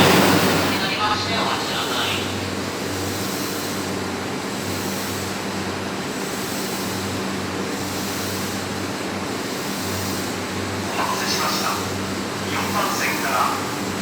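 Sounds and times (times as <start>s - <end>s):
electric train interior hum: 0.0s - 14.0s.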